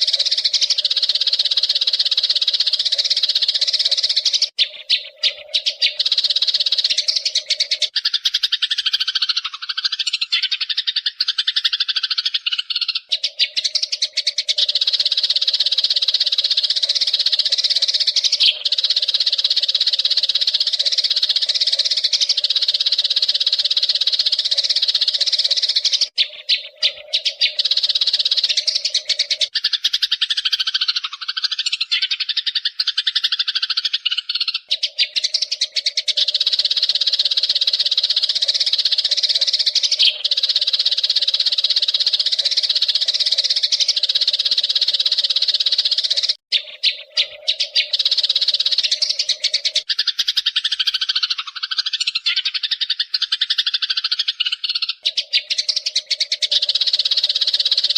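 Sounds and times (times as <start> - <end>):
sparrows chirping in chorus: 0.0 - 57.9.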